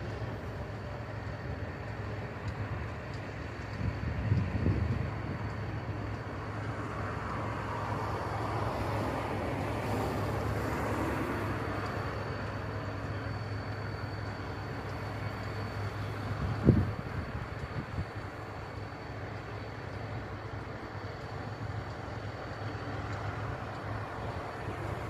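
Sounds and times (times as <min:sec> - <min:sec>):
machinery humming: 0:00.0 - 0:25.0
broad wash of noise: 0:03.8 - 0:25.0.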